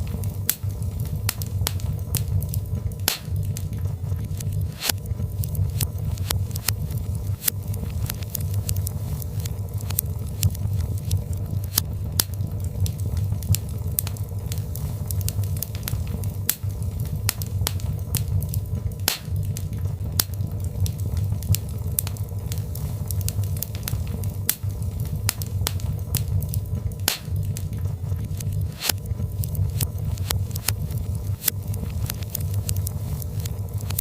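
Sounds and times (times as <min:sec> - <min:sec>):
log fire crackling and popping: 0:00.0 - 0:34.0
low rumble of flames: 0:00.0 - 0:34.0.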